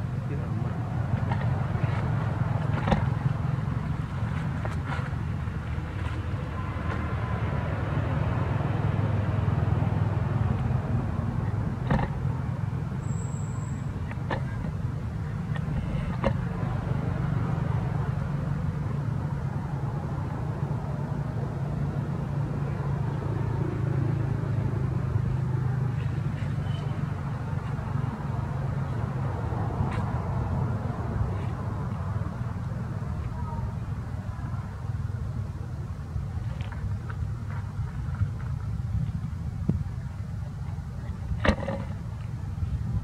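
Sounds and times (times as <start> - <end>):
motor vehicle engine running: 0.0 - 43.0.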